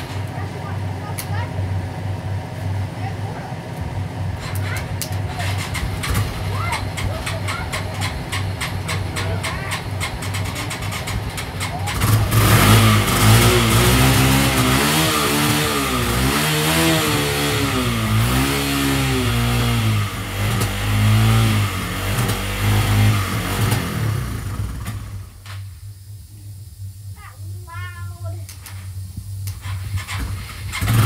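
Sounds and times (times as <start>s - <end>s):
quad engine revving: 0.0s - 25.5s, 29.4s - 31.0s.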